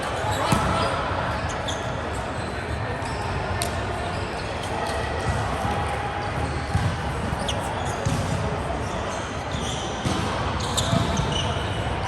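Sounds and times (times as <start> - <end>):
shoe squeaks: 0.0 - 5.0, 6.6 - 11.7
faint voices in hall: 0.0 - 12.0.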